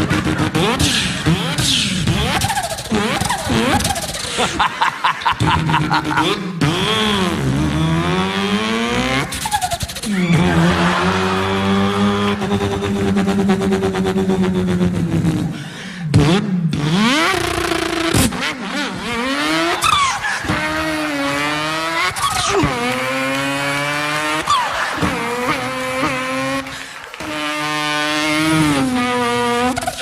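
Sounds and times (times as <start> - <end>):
person imitating racing car engine: 0.0 - 30.0.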